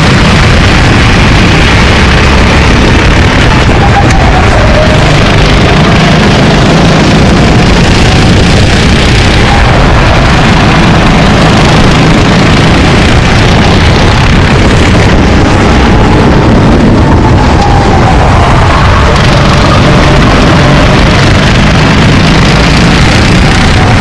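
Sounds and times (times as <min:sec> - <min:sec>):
racing kart engines: 0:00.0 - 0:24.0.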